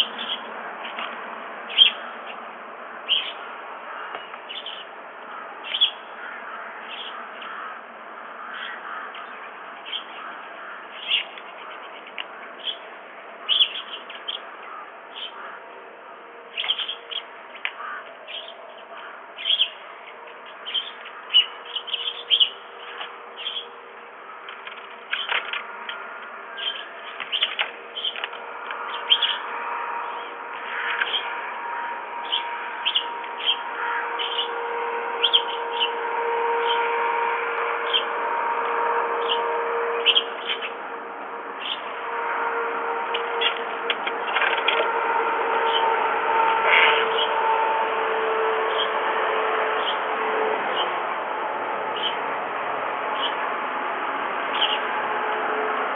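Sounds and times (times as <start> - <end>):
birds chirping: 0.0 - 53.6, 54.3 - 55.9.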